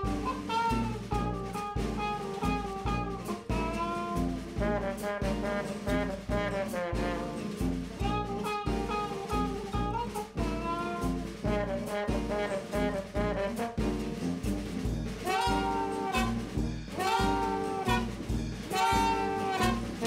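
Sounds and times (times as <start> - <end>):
jazz music with brass horns: 0.0 - 20.0.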